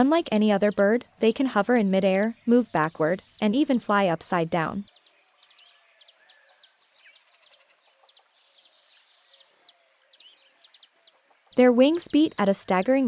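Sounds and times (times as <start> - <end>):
faint bird calls: 0.0 - 12.9
insects chirping: 0.0 - 13.0.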